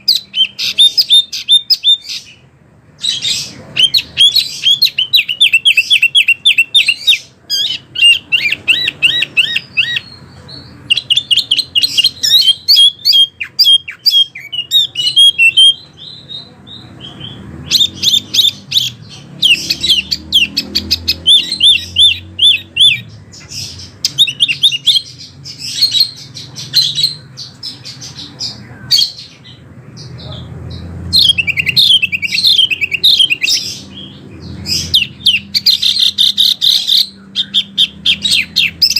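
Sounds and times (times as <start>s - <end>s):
songbird high chirping: 0.0s - 38.9s.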